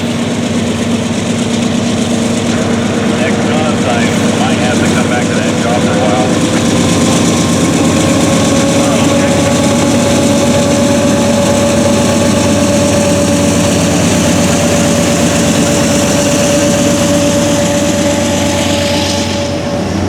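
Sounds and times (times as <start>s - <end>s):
constant whine: 0.0s - 20.0s
diesel locomotives running: 0.0s - 20.0s.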